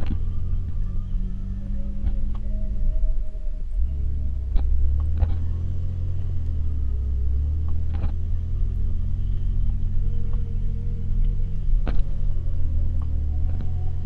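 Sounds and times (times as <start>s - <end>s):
engine deep rumble: 0.0s - 14.0s.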